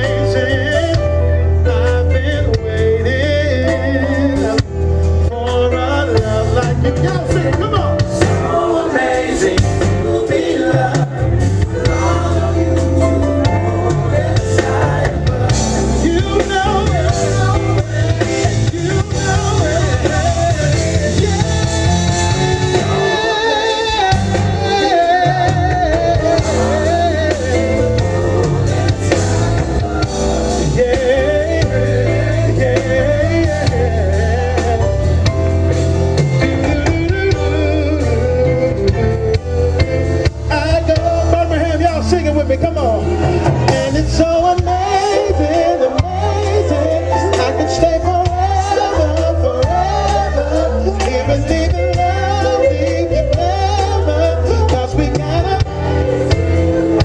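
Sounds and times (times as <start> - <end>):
band with drums bass and guitar: 0.0 - 57.0
man singing a soul ballad: 0.0 - 57.0.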